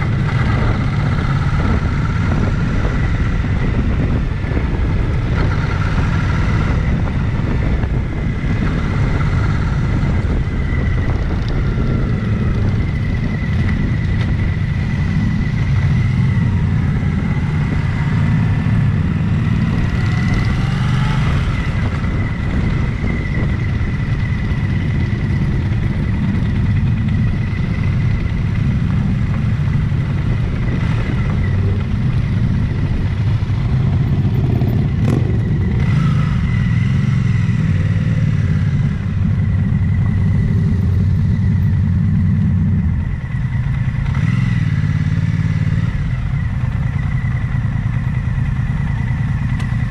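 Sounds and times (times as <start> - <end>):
motorcycle engine running: 0.0 - 49.9
wind buffeting microphone: 0.0 - 49.9.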